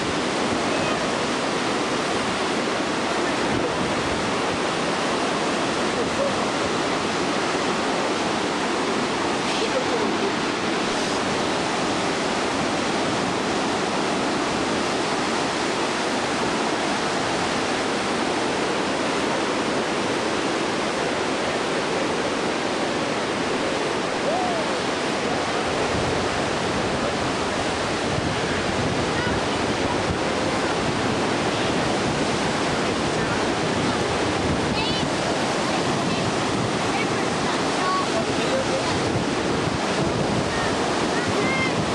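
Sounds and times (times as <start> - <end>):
rushing waterfall: 0.0 - 41.9.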